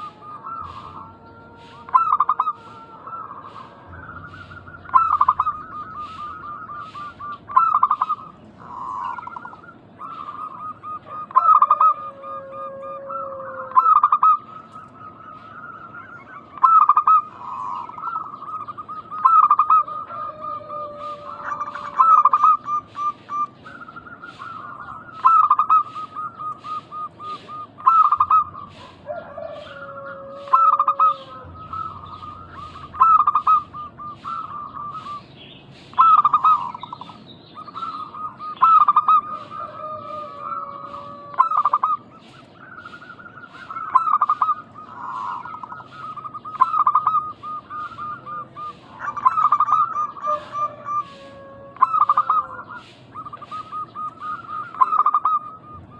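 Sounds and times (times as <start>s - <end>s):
doves cooing: 0.0s - 55.9s.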